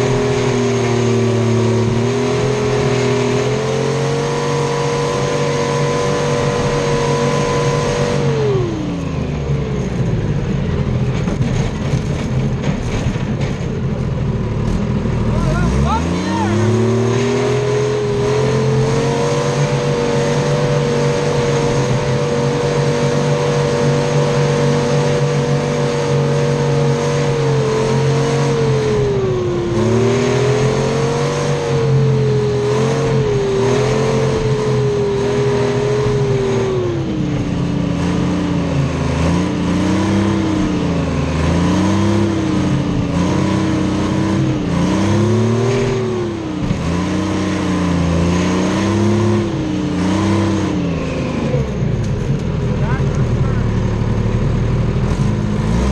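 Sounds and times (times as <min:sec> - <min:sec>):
diesel engine revving: 0:00.0 - 0:55.9.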